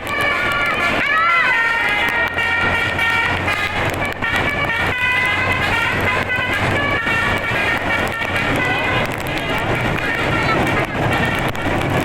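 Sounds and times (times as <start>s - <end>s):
bus air horn tune: 0.0s - 12.0s.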